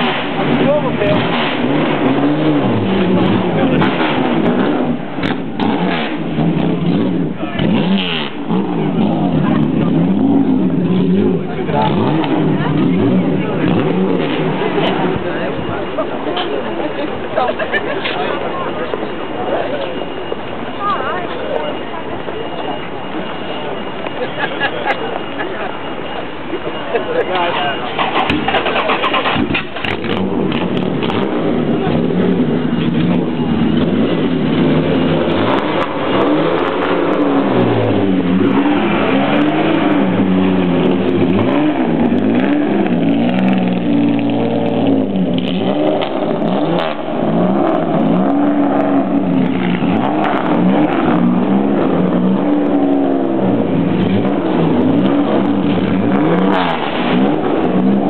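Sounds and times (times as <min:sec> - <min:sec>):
car engine revving: 0:00.0 - 0:19.2, 0:27.7 - 0:58.0.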